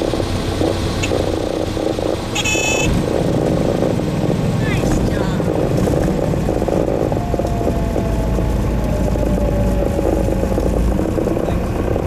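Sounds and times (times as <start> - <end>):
aircraft engine and propeller rumble: 0.0 - 12.0.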